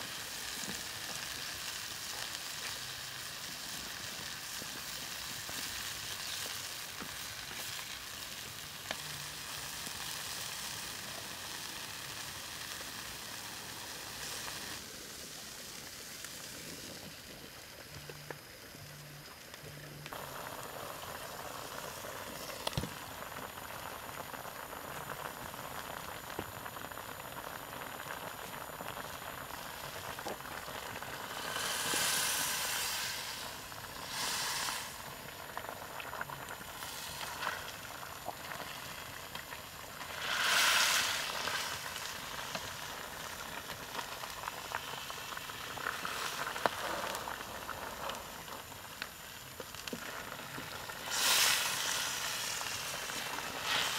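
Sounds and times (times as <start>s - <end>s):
stew boiling and sizzling: 0.0s - 53.9s.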